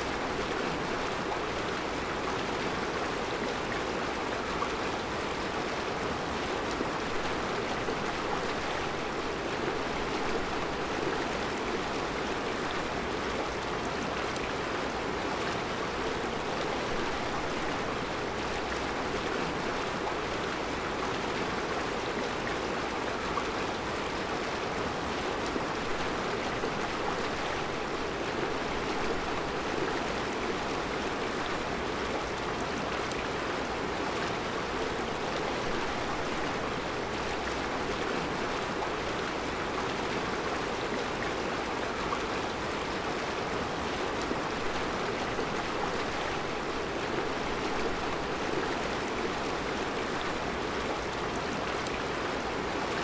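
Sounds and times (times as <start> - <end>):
river flowing over rocks: 0.0 - 53.0.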